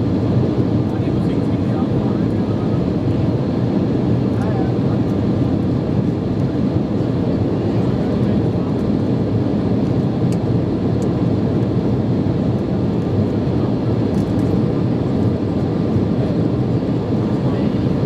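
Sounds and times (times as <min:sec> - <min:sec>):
airplane cabin drone: 0:00.0 - 0:18.0.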